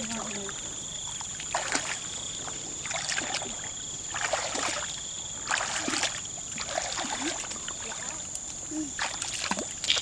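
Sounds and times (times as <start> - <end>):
footsteps sloshing in muddy water: 0.1 - 10.0.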